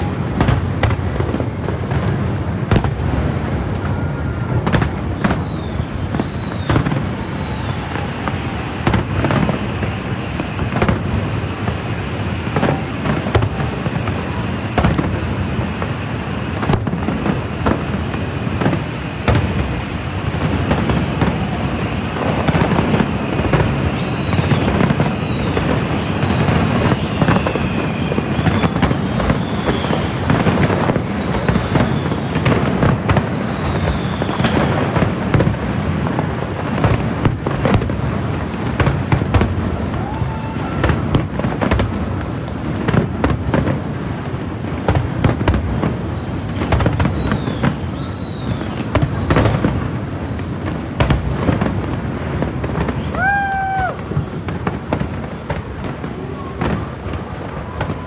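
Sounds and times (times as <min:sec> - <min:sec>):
fireworks bangs: 0:00.0 - 0:58.0
fireworks crackling and popping: 0:00.0 - 0:58.0.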